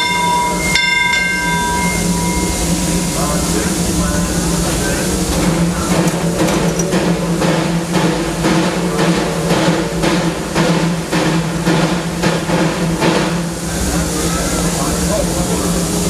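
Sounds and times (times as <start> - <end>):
constant low hum: 0.0 - 16.0
steam locomotive chuffing: 0.0 - 16.0.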